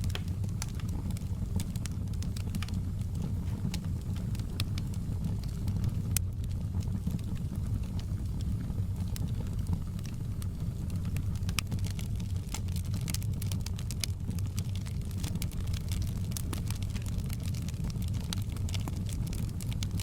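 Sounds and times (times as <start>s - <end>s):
log fire crackling and popping: 0.0s - 20.0s.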